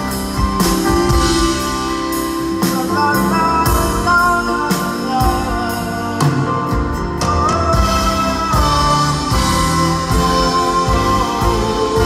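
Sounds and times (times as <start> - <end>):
acoustic guitar chords: 0.0 - 12.0
steady drum beat: 0.0 - 12.0.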